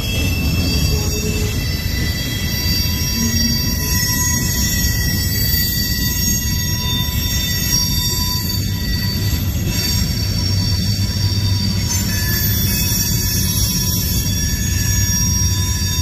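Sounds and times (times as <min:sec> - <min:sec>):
steel wheels rumbling on rails: 0:00.0 - 0:16.0
thin high tones: 0:00.0 - 0:16.0.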